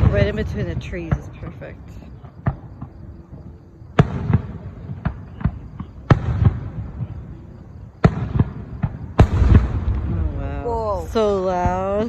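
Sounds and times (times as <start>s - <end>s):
fireworks pops and cracks: 0.0s - 12.0s.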